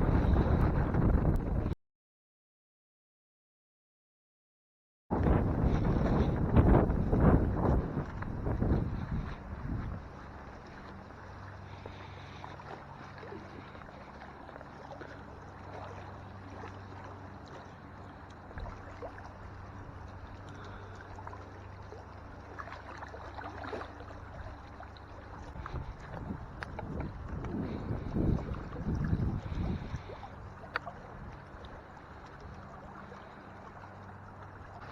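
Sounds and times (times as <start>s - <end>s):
boat motor humming: 0.0s - 1.7s, 5.1s - 34.9s
water lapping against hull: 0.0s - 1.8s, 5.1s - 34.9s.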